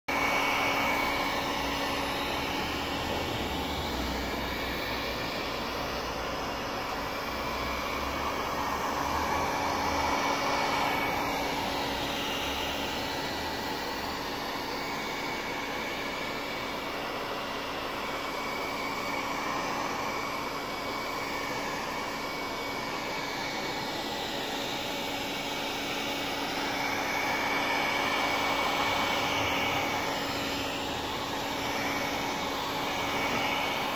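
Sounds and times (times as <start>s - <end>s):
heat gun fan blowing: 0.1s - 33.9s.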